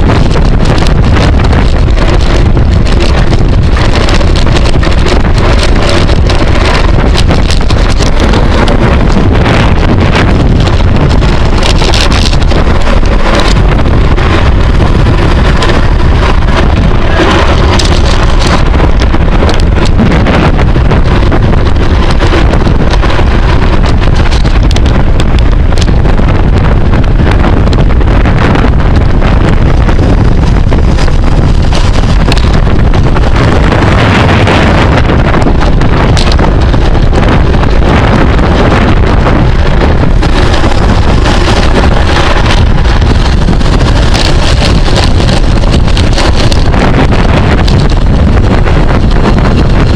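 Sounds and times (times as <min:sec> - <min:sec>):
wind noise on microphone: 0:00.0 - 0:49.9.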